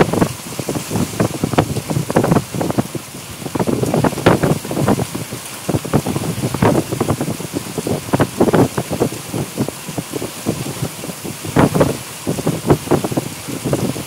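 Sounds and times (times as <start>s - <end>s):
heavy rain on hard surface: 0.0s - 14.0s.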